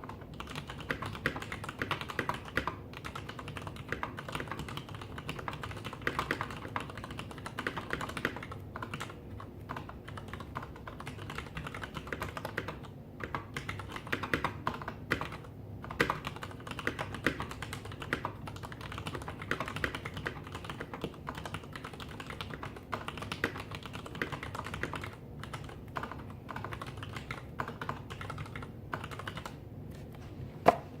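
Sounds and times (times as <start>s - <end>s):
mechanical keyboard typing: 0.0s - 29.6s.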